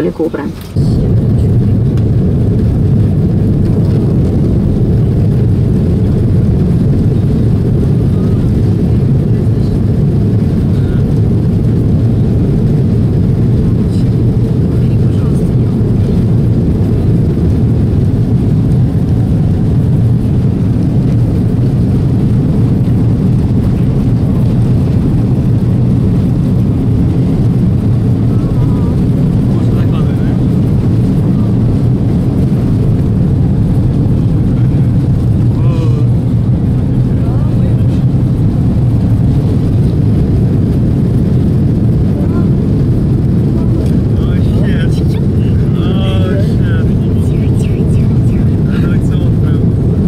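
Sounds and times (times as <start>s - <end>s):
jet engines low rumble: 0.0s - 50.0s.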